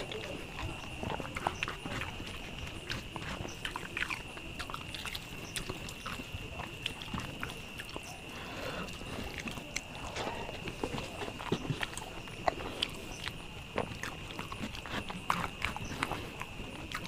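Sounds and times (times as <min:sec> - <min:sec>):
chewing with mouth clicks: 0:00.0 - 0:17.0.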